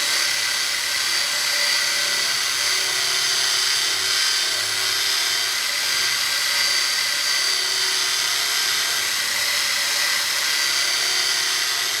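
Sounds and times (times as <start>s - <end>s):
motor whining at high speed: 0.0s - 12.0s.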